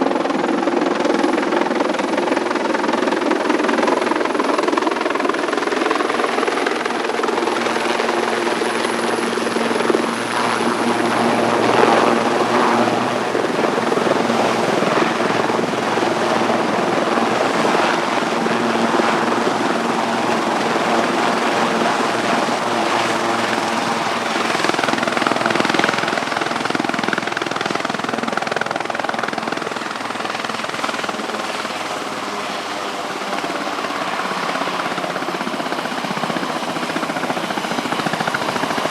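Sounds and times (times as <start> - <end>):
helicopter running: 0.0 - 38.9
high turbine whine: 4.4 - 38.9.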